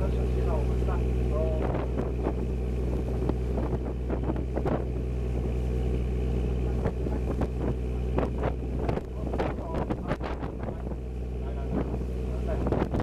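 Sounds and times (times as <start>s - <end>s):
boat engine humming: 0.0s - 13.0s
wind on microphone: 0.0s - 13.0s.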